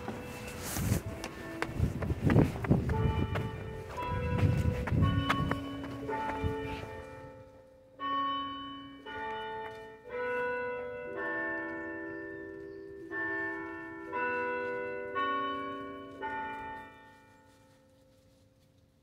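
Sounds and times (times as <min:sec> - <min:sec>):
church bells ringing: 0:00.0 - 0:18.6.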